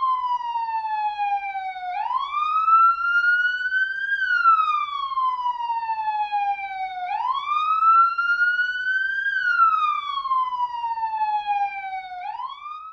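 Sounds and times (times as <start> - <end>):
police siren wailing: 0.0 - 12.9.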